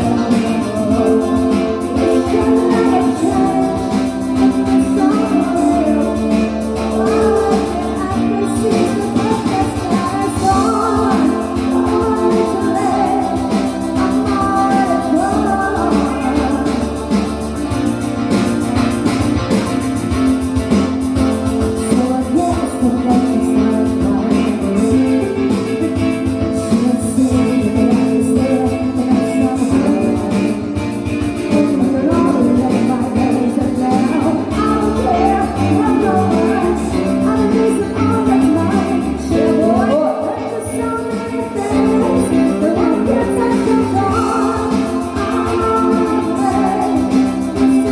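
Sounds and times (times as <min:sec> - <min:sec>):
guitar accompaniment: 0:00.0 - 0:47.9
person singing: 0:00.0 - 0:47.9.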